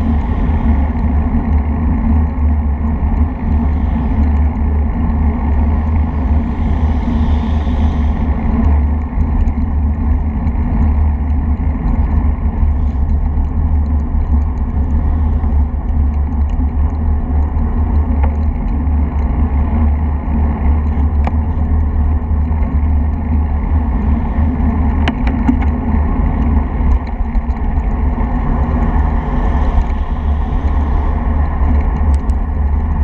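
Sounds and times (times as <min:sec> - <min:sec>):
bicycle tyres on tarmac: 0:00.0 - 0:33.0
wind buffeting microphone: 0:00.0 - 0:33.0.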